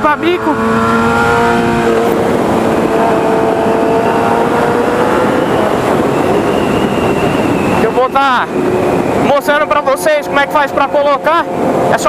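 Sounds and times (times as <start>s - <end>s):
motorcycle engine revving: 0.0s - 12.0s
wind rush: 0.0s - 12.0s.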